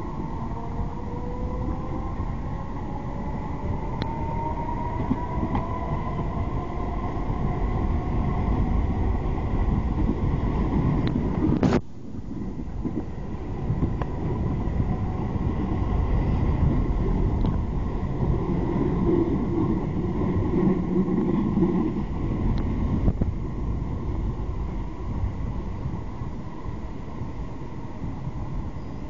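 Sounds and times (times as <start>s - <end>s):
humming tone: 0.0s - 29.0s
train rumbling on track: 0.0s - 29.0s.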